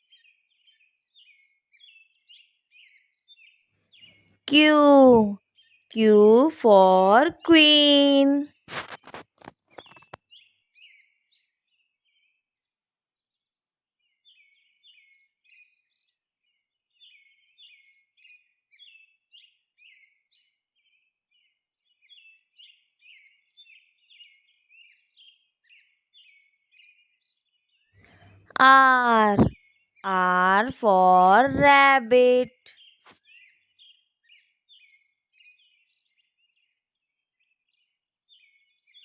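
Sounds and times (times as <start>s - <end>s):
faint birdsong: 0.0s - 8.4s, 9.0s - 12.5s, 13.2s - 39.0s.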